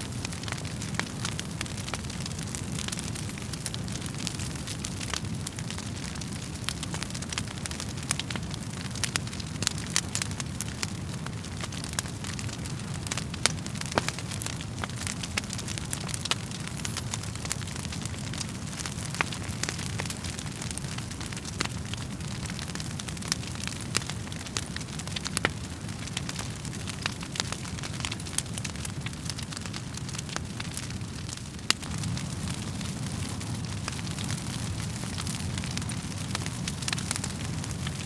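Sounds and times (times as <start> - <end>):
low rumble of flames: 0.0 - 38.0
wood fire crackling and popping: 0.0 - 38.0.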